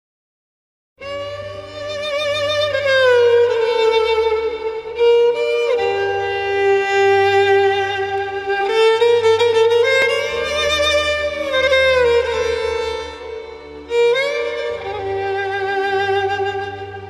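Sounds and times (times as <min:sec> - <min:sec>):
slow instrumental music: 0:01.0 - 0:17.0.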